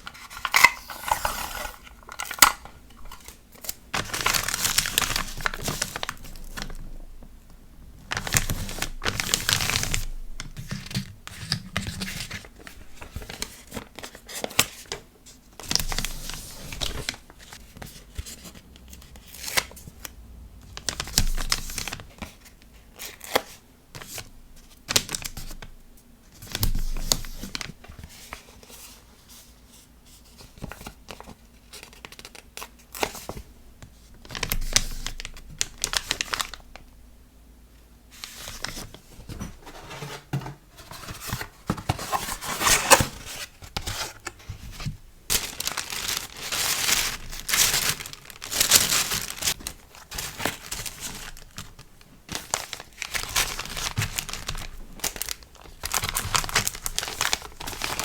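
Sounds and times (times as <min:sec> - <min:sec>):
paper and plastic rustling: 0:00.0 - 0:07.0, 0:08.0 - 0:25.7, 0:26.4 - 0:36.8, 0:38.1 - 0:58.0.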